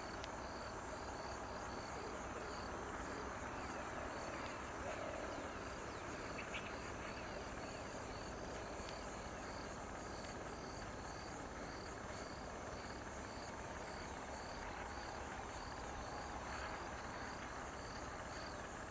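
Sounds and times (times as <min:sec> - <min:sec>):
outdoor background hiss: 0:00.0 - 0:18.9.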